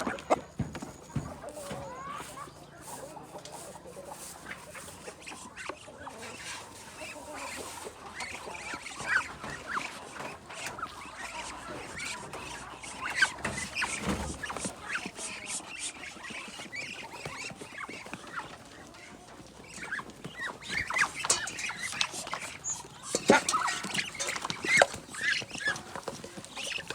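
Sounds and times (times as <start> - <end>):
chickens calling: 0.0 - 26.9.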